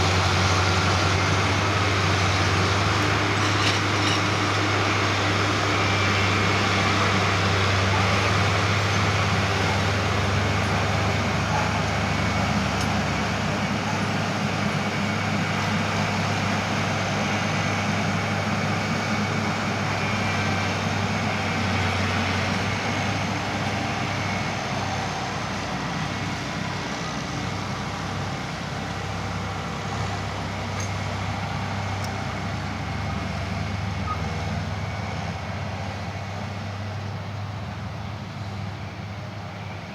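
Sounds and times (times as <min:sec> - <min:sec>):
harvester machinery rattling: 0:00.0 - 0:39.9
tractor diesel drone: 0:00.0 - 0:39.9.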